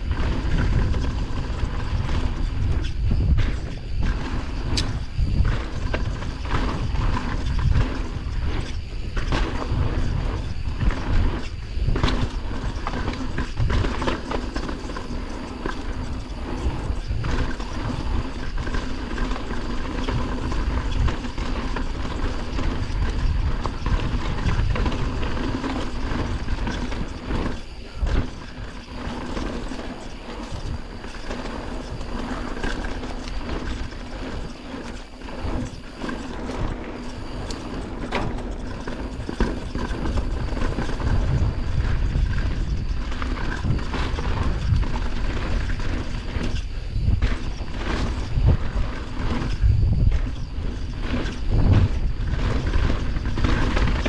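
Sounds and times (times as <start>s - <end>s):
bike rattling and knocking: 0.0s - 54.0s
tyres rolling over dirt: 0.0s - 54.0s.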